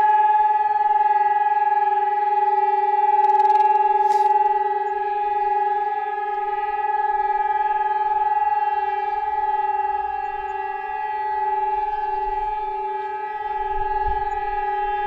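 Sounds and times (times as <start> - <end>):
air raid siren steady tone: 0.0 - 15.0.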